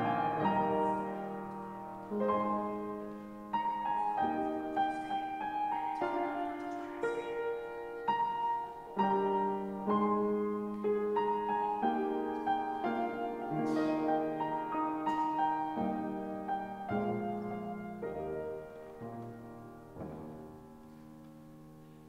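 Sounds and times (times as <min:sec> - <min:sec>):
slow instrumental keyboard music: 0:00.0 - 0:22.0.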